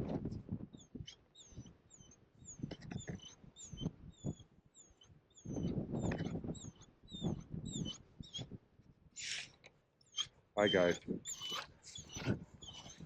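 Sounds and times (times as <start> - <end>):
small bird chirping: 0.7 - 8.5, 9.2 - 13.0.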